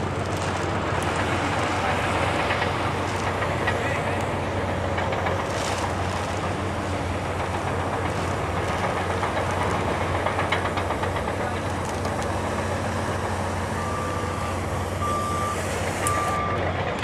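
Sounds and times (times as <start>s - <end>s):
machinery humming and rumbling: 0.0s - 17.0s.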